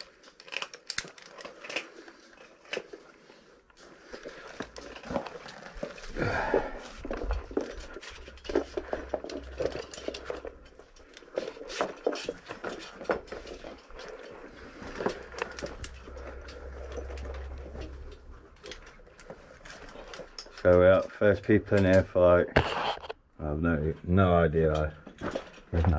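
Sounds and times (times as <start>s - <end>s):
metal climbing gear clinking: 0.0s - 22.2s, 24.7s - 25.8s.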